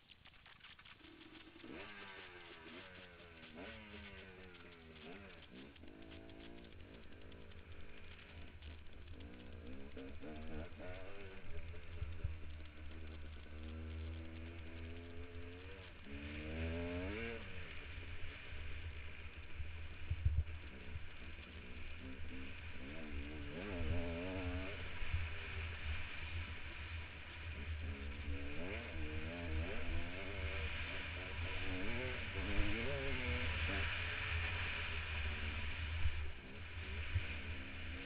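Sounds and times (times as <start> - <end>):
dirt bike engine revving: 0.2 - 38.0.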